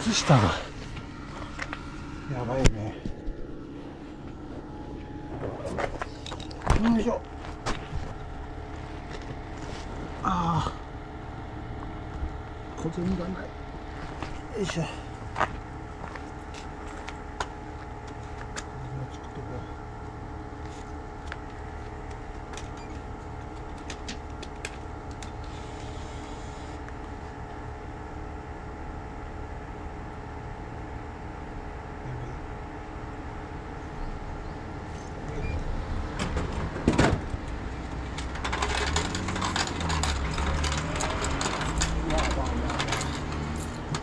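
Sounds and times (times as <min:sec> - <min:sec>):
vending machine humming: 0:00.0 - 0:44.0.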